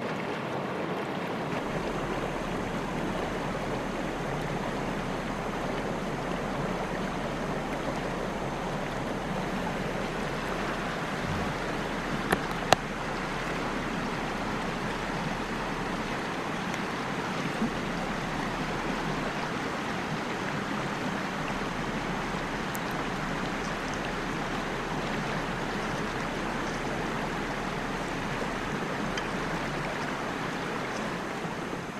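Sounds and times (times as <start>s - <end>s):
river water rushing: 0.0s - 31.9s.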